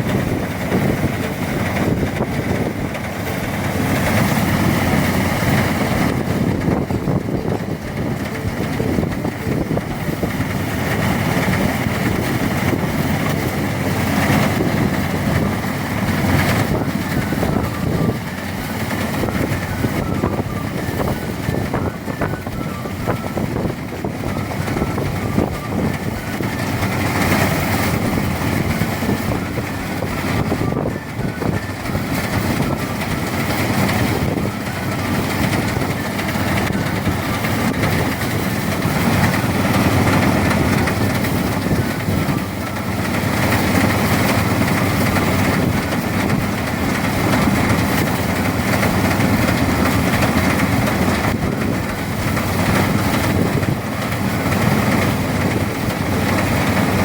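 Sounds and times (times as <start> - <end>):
threshing machine running: 0.0 - 57.0.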